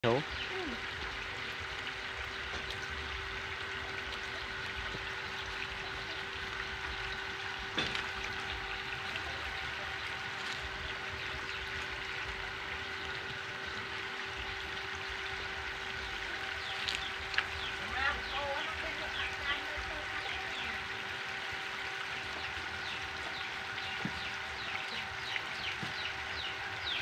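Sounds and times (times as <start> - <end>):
running water splashing on ground: 0.0 - 27.0
steady hum: 0.0 - 27.0.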